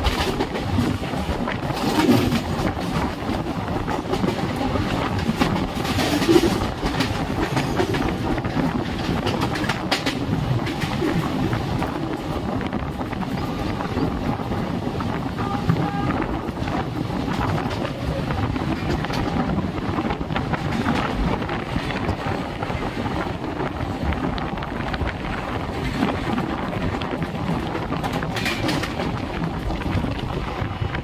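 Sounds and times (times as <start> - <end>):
train wheel and rail noise: 0.0 - 31.0
wind on microphone: 0.0 - 31.0.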